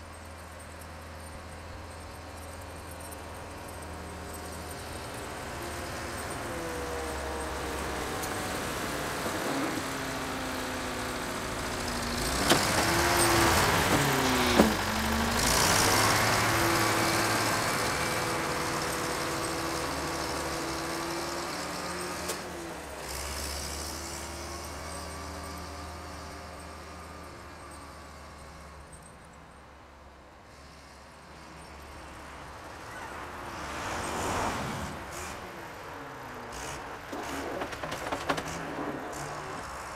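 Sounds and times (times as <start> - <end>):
tractor diesel engine passing: 0.0 - 39.9.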